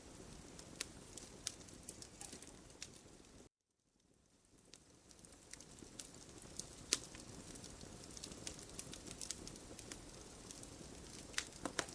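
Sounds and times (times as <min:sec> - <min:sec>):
fire crackling and popping: 0:00.0 - 0:11.9.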